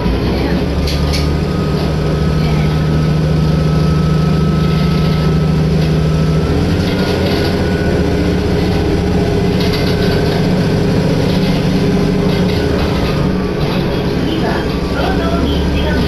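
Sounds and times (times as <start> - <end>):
diesel railcar engine drone: 0.0 - 16.0
rail noise: 0.0 - 16.0.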